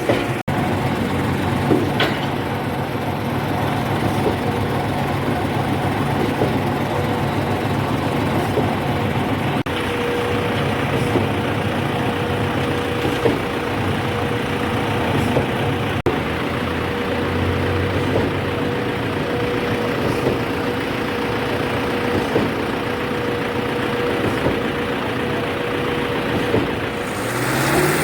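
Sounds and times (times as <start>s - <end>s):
heavy machinery engine running: 0.0s - 28.0s.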